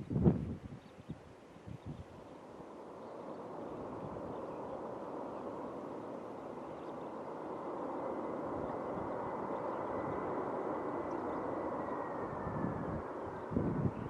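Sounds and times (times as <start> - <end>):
high jet engine whine: 0.0 - 14.0
jet engines rushing: 2.1 - 14.0.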